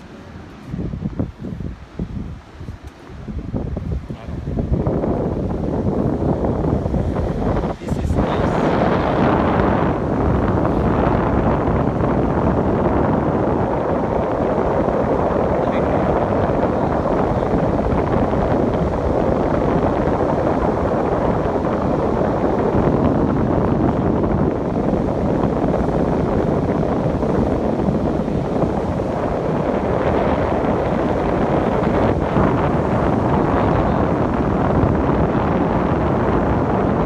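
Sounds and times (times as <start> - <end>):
wind blowing across microphone: 0.0 - 37.0.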